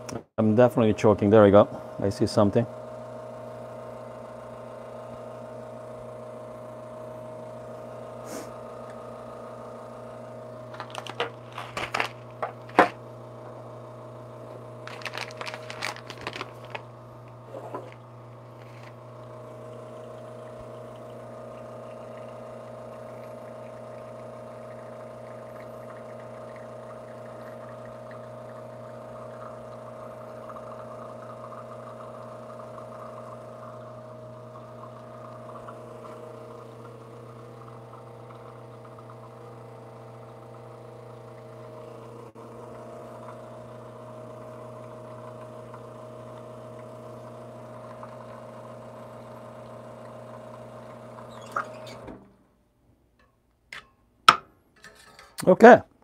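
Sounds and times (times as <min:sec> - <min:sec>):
espresso machine pump humming: 0:00.0 - 0:52.4.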